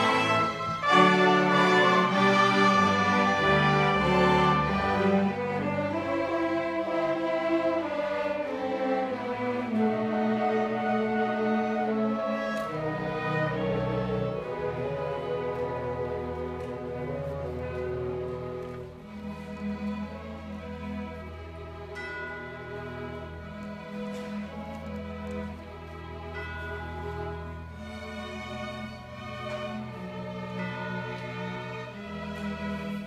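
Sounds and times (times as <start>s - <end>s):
band and orchestra playing: 0.0s - 33.0s
violins and cellos sustained chords: 0.0s - 33.0s.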